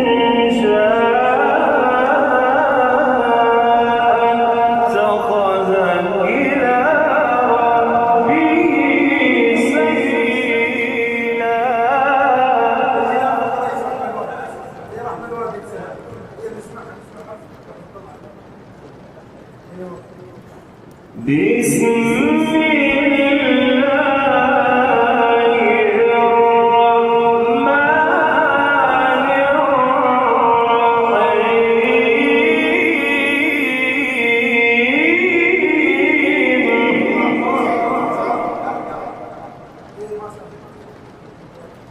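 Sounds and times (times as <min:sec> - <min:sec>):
man chanting melodic recitation: 0:00.0 - 0:18.2, 0:21.1 - 0:41.9.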